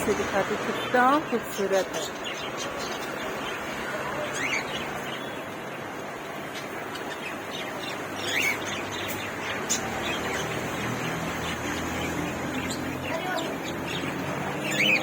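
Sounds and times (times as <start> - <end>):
caged birds chirping: 0.0 - 15.0.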